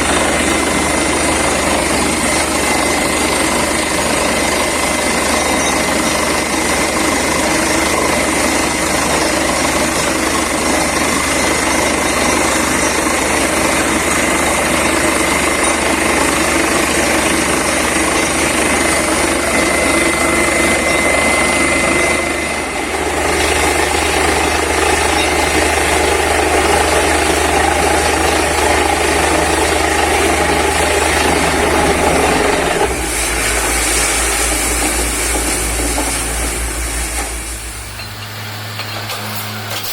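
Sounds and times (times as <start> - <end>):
air compressor running: 0.0 - 39.9
drilling rig running: 0.0 - 39.9.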